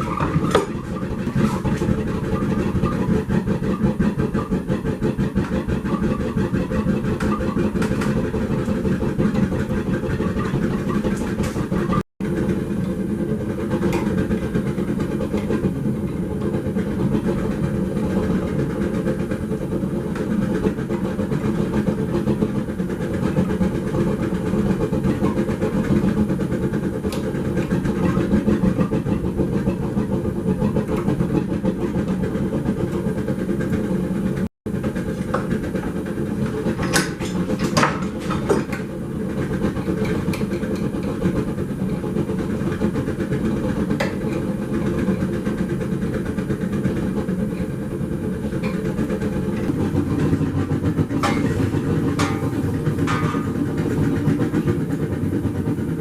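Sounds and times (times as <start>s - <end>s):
gas forge burner roaring: 0.0s - 56.0s.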